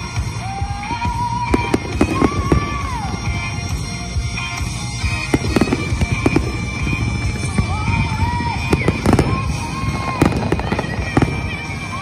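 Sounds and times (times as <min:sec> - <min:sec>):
fireworks bangs and crackles: 0:00.0 - 0:12.0
low rumble of fireworks: 0:00.0 - 0:12.0.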